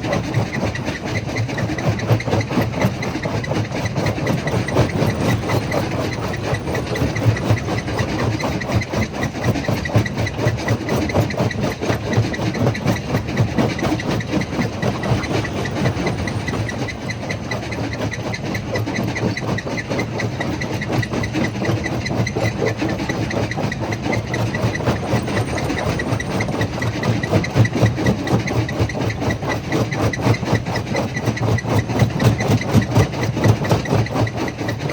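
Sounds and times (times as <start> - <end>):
stone crusher running: 1.0 - 29.6.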